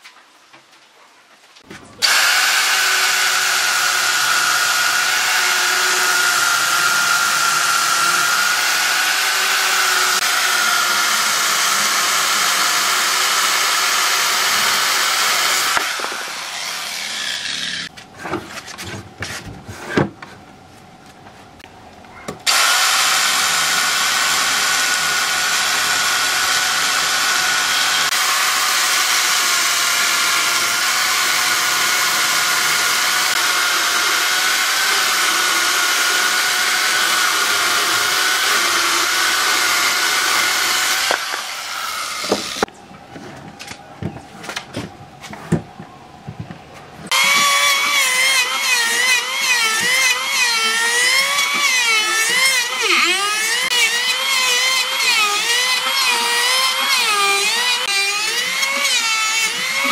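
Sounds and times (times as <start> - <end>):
electric chainsaw cutting log: 2.0 - 17.9, 22.4 - 42.7, 47.1 - 59.9.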